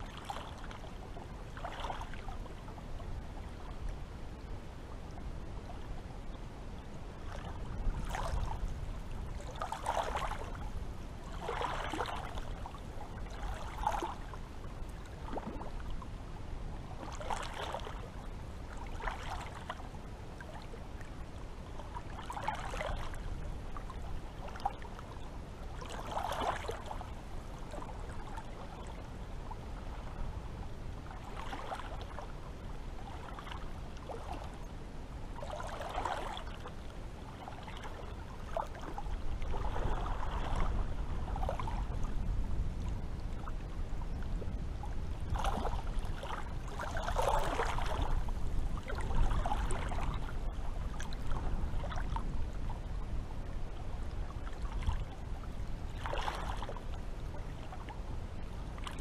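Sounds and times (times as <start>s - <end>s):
low steady rumble: 0.0s - 59.0s
small sea waves lapping: 0.0s - 59.0s.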